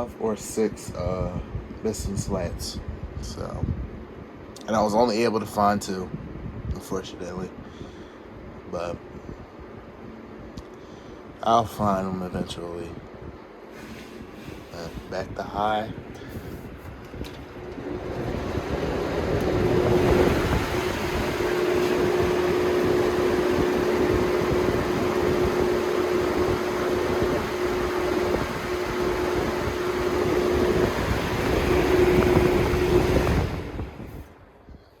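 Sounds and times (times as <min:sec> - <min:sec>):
box fans rushing air: 0:00.0 - 0:35.0
fan motor hum: 0:00.0 - 0:35.0.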